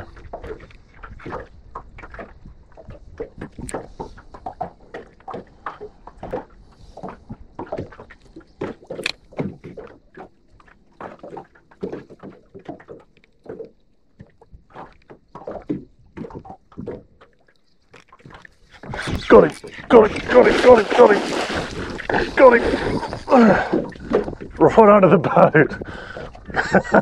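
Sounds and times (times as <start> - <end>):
small waves lapping against boat: 0.0 - 27.0.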